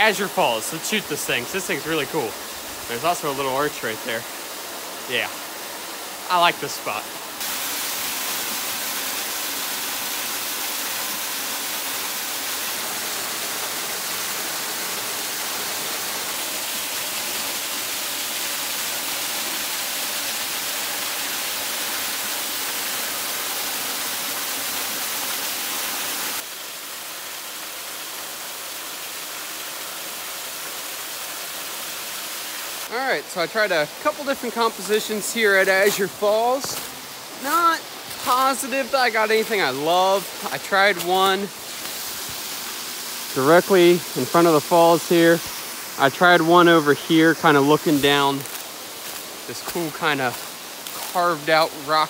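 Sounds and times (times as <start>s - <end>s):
waterfall pouring into pool: 0.0s - 52.0s.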